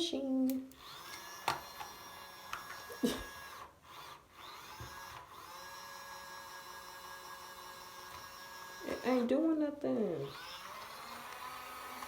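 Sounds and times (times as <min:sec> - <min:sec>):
small electric motor whining: 0:00.7 - 0:09.5, 0:10.1 - 0:12.0.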